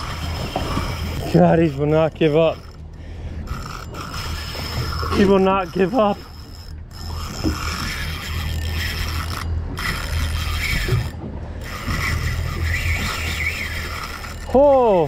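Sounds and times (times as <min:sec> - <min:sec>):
fishing reel gears and ratchet: 0:00.0 - 0:15.0.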